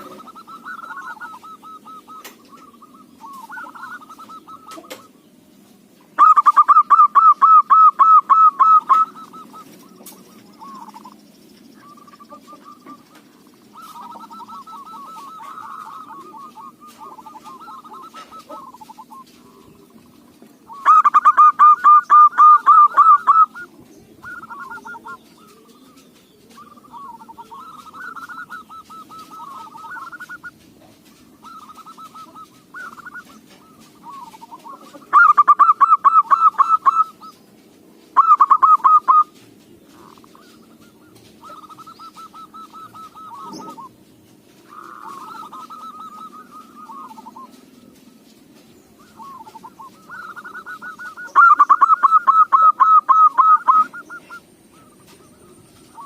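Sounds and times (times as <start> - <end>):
doves cooing in trilled runs: 0.0 - 56.0.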